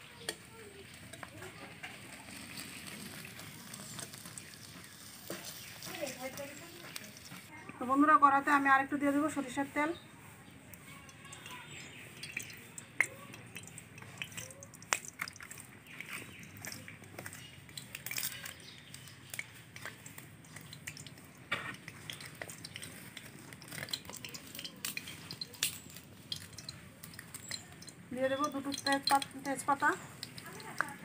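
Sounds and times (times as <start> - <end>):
oil crackling in a pan: 0.0 - 9.7, 10.5 - 31.0.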